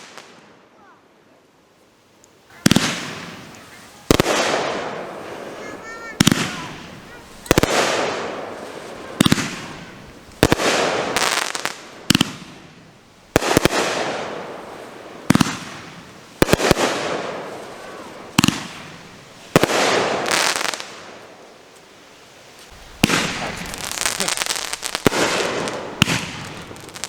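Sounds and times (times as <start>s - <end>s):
firework cake shots crackling: 2.6s - 12.6s, 13.3s - 21.9s, 22.5s - 27.0s.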